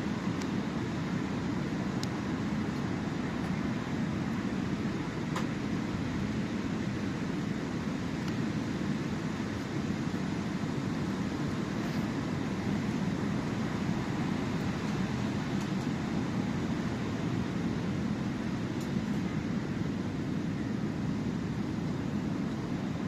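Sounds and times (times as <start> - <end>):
sea surf washing on shore: 0.0 - 23.0.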